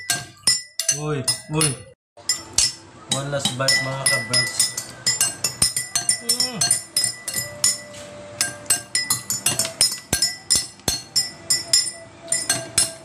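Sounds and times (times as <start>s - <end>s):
cutlery clinking against plates: 0.0s - 13.0s.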